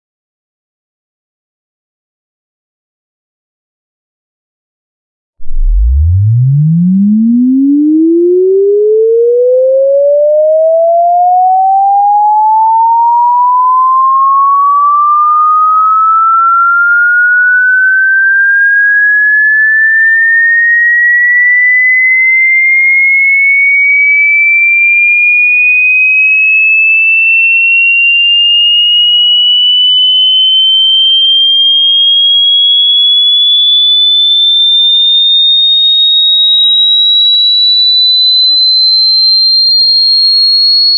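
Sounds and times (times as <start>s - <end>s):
sine tone sweeping upward: 5.4s - 40.9s.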